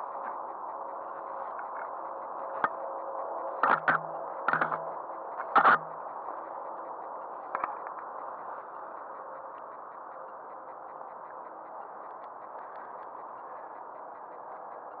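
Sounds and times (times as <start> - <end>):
faint rapid ticking: 0.0 - 15.0.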